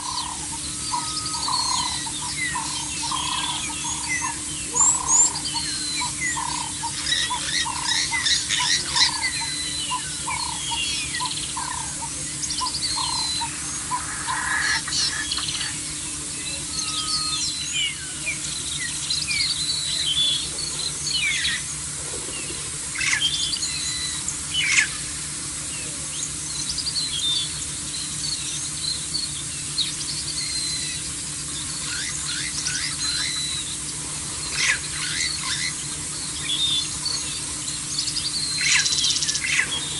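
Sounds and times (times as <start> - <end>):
faint low hum: 0.0 - 39.9
wild birds chirping and whistling: 0.0 - 39.9.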